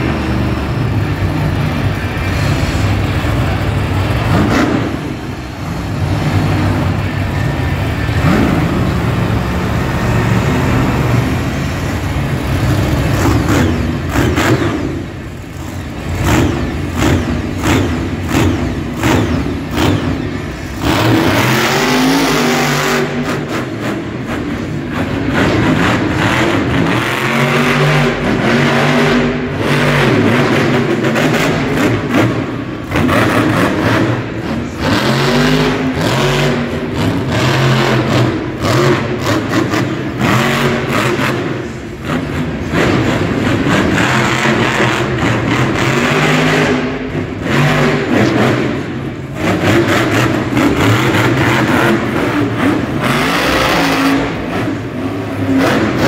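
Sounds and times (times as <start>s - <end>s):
truck engine revving hard: 0.0s - 56.0s.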